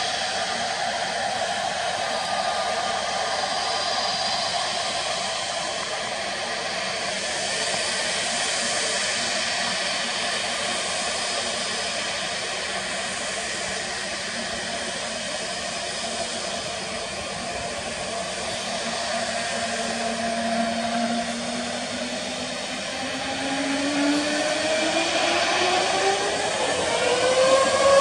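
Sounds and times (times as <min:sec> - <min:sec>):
jet engines rushing and whining: 0:00.0 - 0:28.0.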